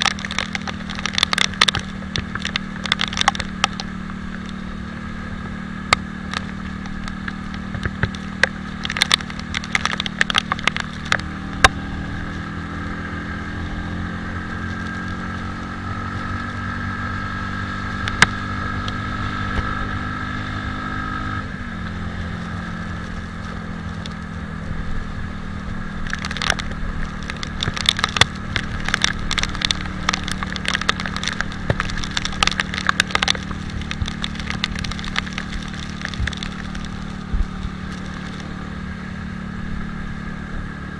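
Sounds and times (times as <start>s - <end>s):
crackling clicks: 0.0s - 40.9s
motorcycle engine running: 0.0s - 40.9s.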